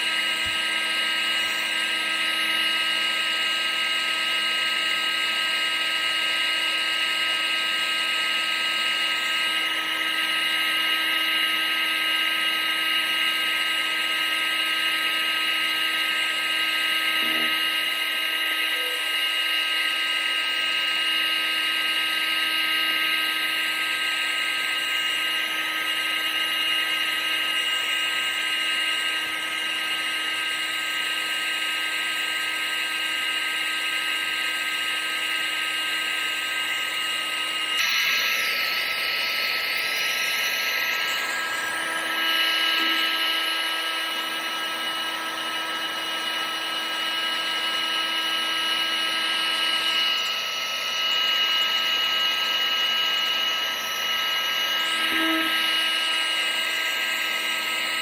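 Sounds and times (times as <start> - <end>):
blower motor whining: 0.0 - 58.0.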